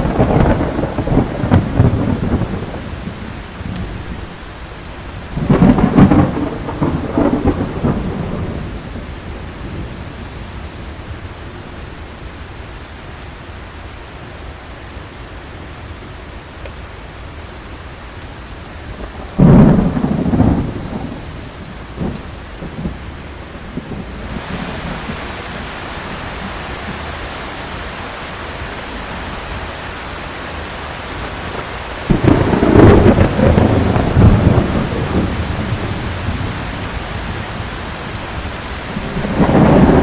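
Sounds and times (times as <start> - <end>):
thunder rumbling: 0.0 - 12.2, 18.6 - 40.0
heavy rain hissing: 0.0 - 40.0.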